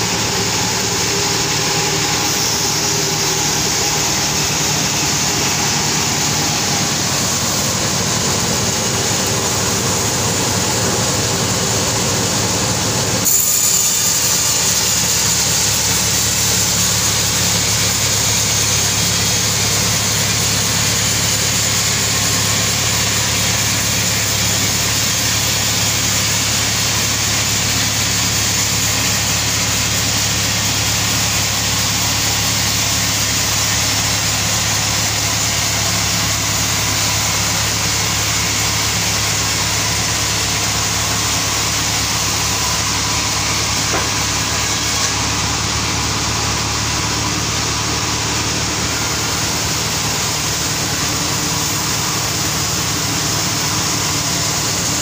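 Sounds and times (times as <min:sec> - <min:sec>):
sawmill saw running: 0:00.0 - 0:55.0.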